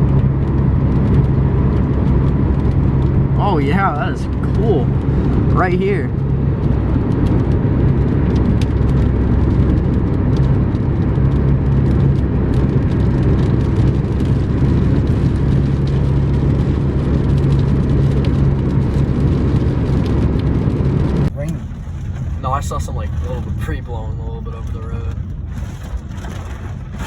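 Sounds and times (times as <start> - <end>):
truck cab low drone: 0.0 - 27.0.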